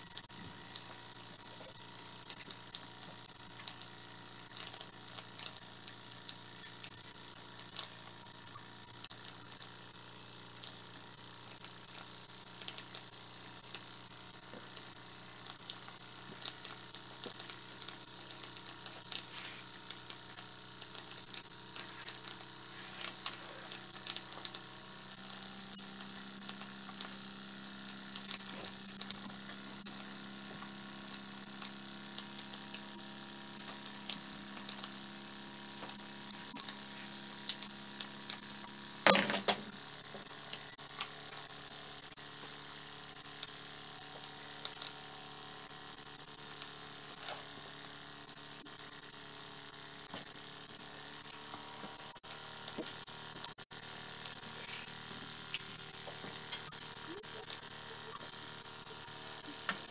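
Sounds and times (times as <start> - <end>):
model steam engine running: 0.0 - 59.9.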